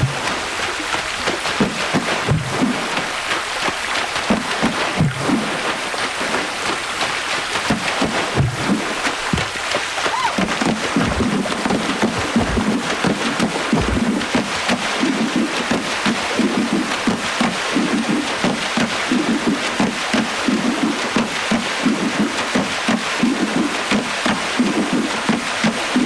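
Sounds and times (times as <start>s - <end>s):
deep hollow water thuds: 0.0s - 26.0s
hands splashing water: 0.0s - 26.0s.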